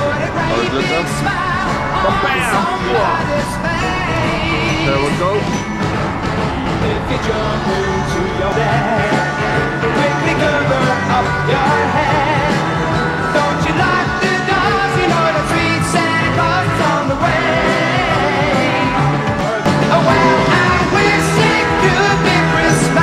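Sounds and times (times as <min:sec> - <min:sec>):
song with singing voice: 0:00.0 - 0:23.0.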